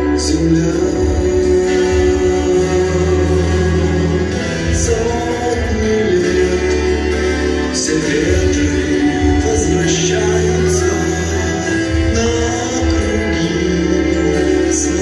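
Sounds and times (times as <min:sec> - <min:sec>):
slow song with singing: 0:00.0 - 0:15.0.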